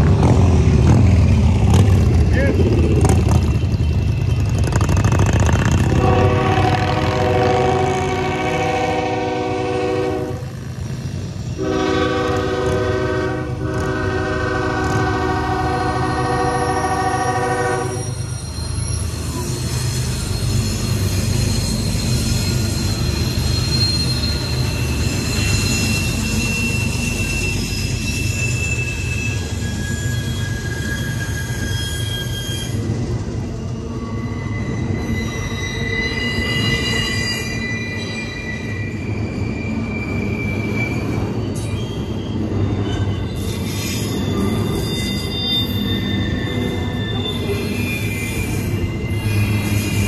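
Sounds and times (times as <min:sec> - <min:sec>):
train wheels rumbling on rail: 0:00.0 - 0:50.0
high wheel squeals: 0:00.1 - 0:50.0.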